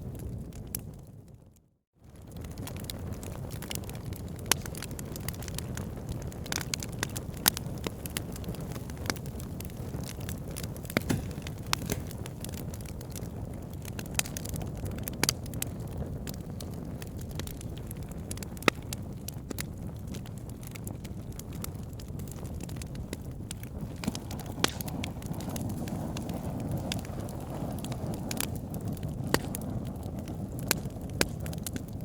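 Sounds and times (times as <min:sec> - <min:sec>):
wood fire crackling and popping: 0:02.1 - 0:32.0.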